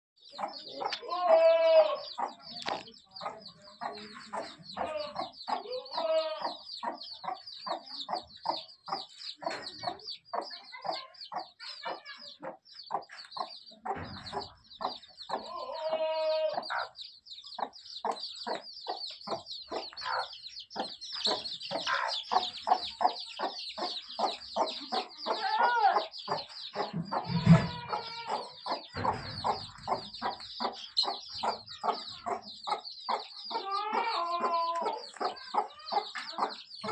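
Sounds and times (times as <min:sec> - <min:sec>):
chicks peeping: 0:00.2 - 0:36.9
hen clucking: 0:00.2 - 0:36.9.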